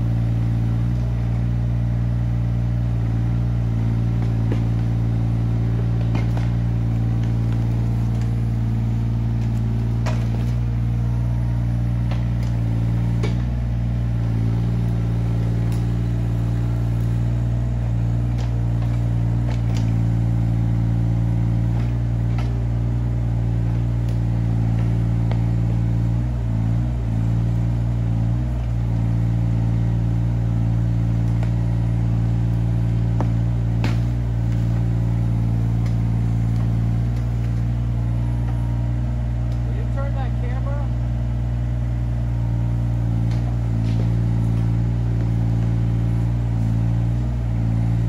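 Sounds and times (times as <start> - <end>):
diesel excavator engine running: 0.0 - 48.0.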